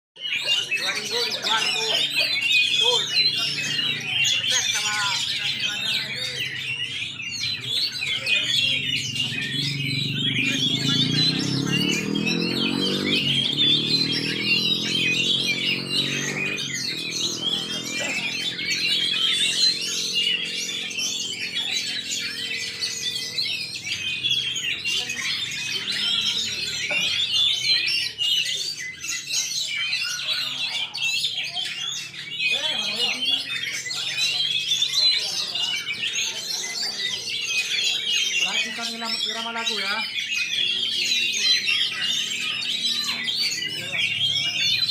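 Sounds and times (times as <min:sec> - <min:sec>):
caged songbirds chirping: 0:00.2 - 0:44.9.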